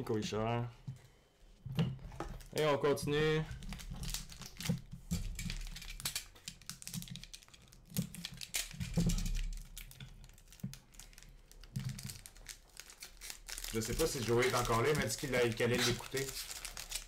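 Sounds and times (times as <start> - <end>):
card rustling: 2.3 - 17.0.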